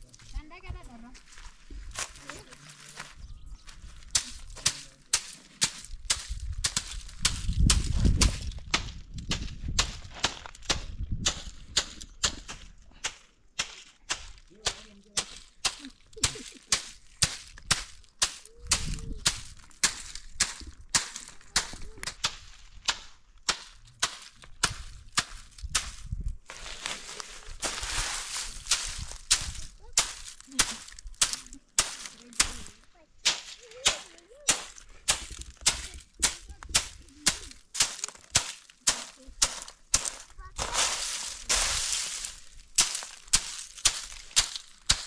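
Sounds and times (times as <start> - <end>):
stick beating dried bean pods: 4.1 - 45.0.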